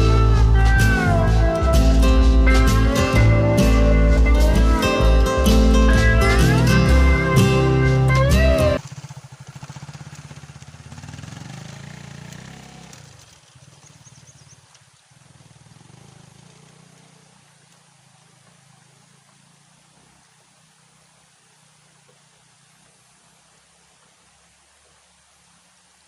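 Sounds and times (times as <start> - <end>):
motorcycle engine running: 0.0 - 22.3.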